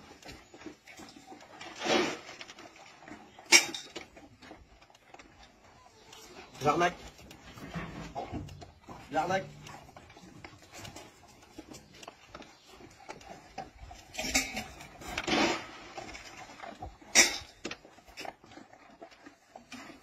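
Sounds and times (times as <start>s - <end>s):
dogs feeding clatter and knocks: 0.0s - 20.0s.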